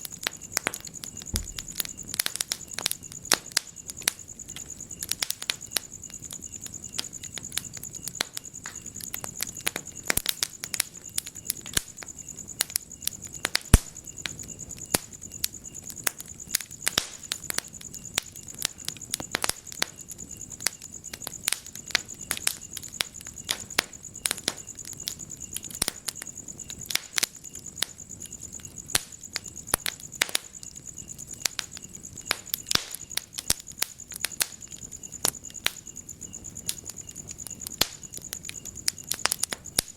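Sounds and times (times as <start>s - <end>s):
crickets trilling: 0.0s - 39.9s
wood fire crackling and popping: 0.0s - 39.9s.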